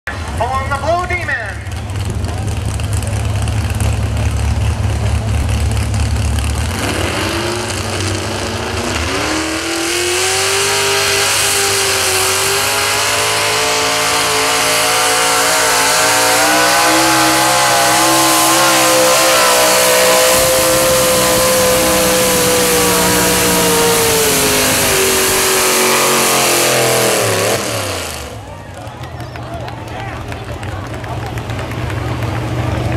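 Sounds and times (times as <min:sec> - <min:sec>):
truck engine revving under load: 0:01.7 - 0:29.5.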